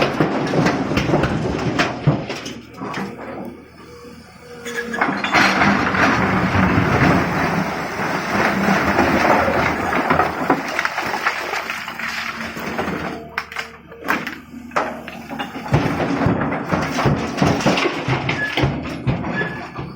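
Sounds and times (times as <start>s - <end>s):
excavator engine running: 0.0s - 19.9s.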